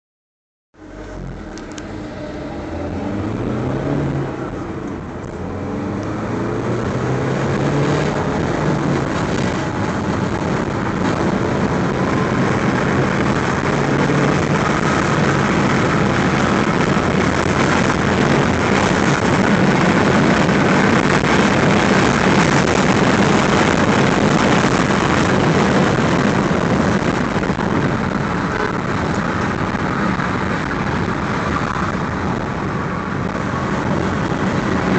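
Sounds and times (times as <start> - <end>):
car engine accelerating: 0.8 - 34.9
tyre and wind noise: 1.1 - 34.9.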